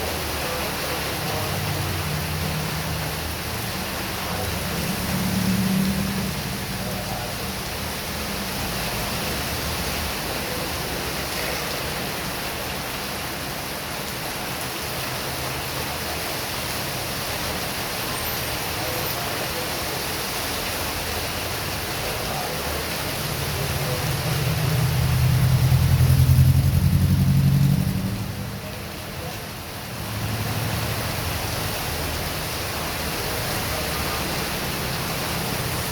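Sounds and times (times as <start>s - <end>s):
heavy rain hissing: 0.0s - 35.9s
vehicle passing on wet road: 0.0s - 35.9s.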